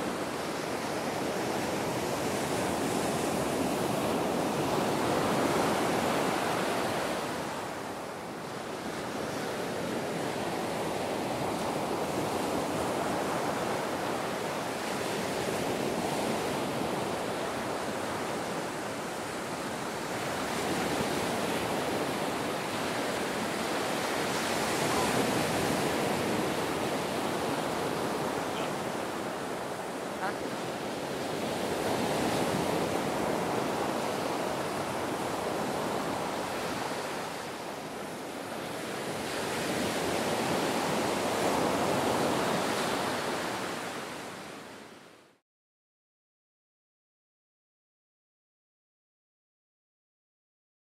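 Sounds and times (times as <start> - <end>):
ocean waves breaking on beach: 0.0 - 45.3.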